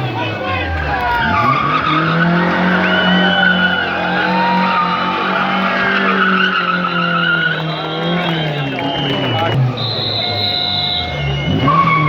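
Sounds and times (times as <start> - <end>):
car engine running hard: 0.0 - 12.0
tyres squealing: 0.0 - 12.0.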